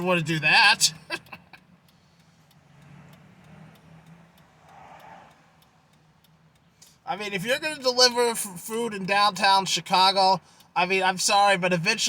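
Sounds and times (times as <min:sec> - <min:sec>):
car indicator ticking: 0:00.0 - 0:12.0.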